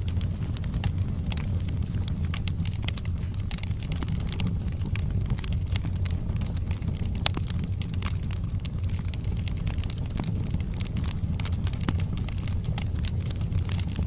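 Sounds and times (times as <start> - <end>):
burning wood popping and snapping: 0.0 - 14.0
low rumble of flames: 0.0 - 14.0.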